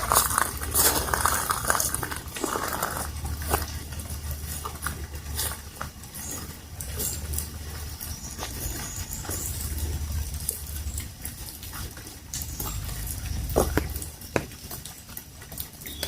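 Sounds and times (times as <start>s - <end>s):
footsteps in light rain: 0.0s - 16.0s.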